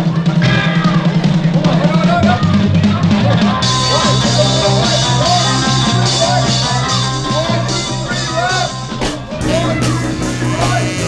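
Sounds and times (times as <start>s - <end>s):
rock song with singing: 0.0s - 11.0s.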